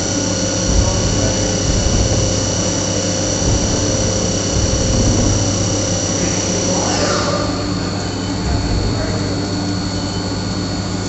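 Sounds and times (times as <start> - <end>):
machine hum: 0.0 - 11.0
milling spindle whine: 0.0 - 11.0.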